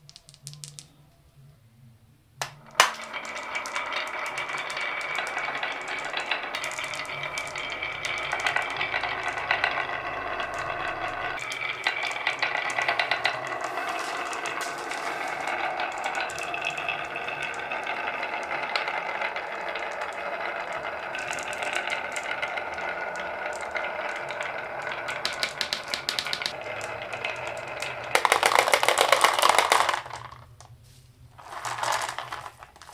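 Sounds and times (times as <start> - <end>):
marbles rattling along wooden tracks: 2.4 - 30.6, 31.4 - 32.9.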